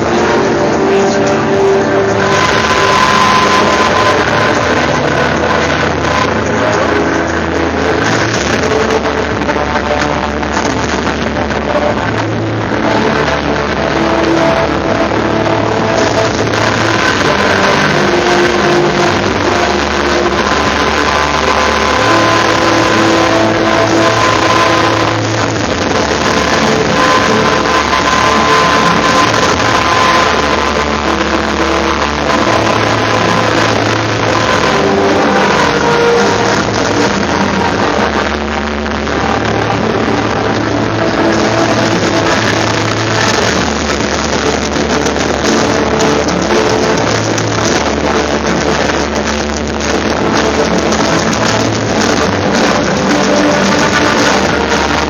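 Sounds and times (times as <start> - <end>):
bass line: 0.0 - 55.0
music with long held notes: 0.0 - 55.0.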